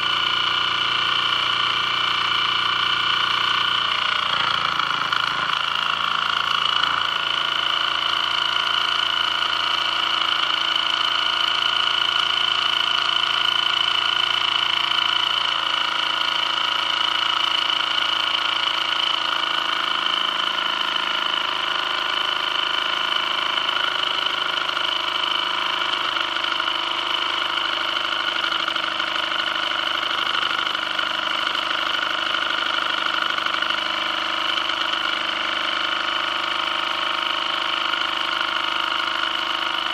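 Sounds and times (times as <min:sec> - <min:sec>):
toy steam engine whirring: 0:00.0 - 0:39.9.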